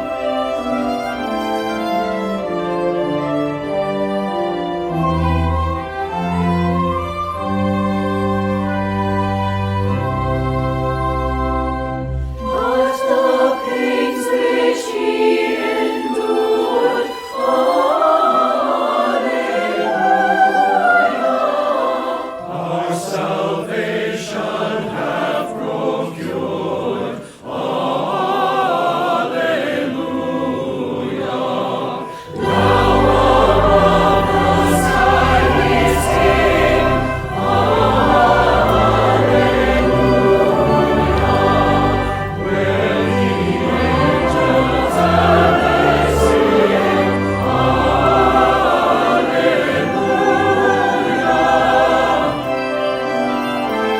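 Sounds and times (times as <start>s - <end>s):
choir singing a hymn: 0.0s - 53.9s
instrumental accompaniment: 0.0s - 53.9s.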